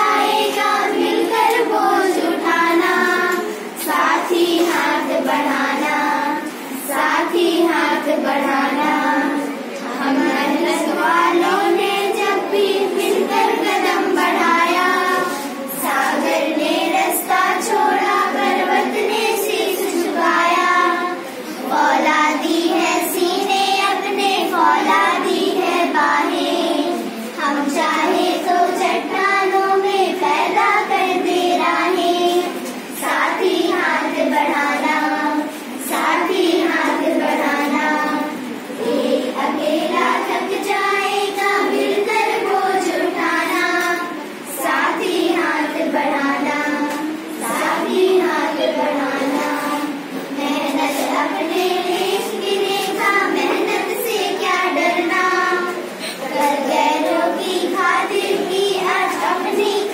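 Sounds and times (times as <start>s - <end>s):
children reciting in chorus: 0.0s - 59.9s.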